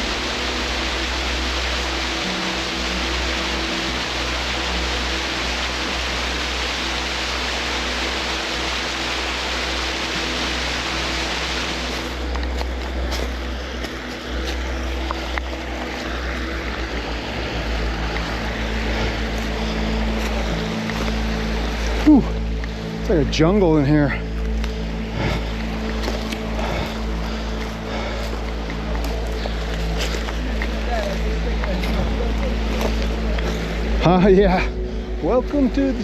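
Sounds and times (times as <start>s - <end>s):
background music: 0.0s - 36.0s
waterfall rushing: 0.0s - 36.0s.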